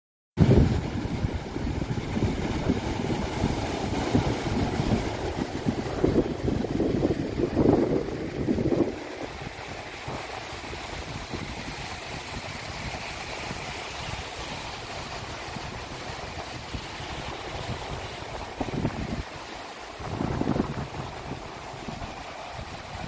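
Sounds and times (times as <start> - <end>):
sea waves washing on shore: 0.4 - 23.0
wind buffeting microphone: 0.4 - 23.0.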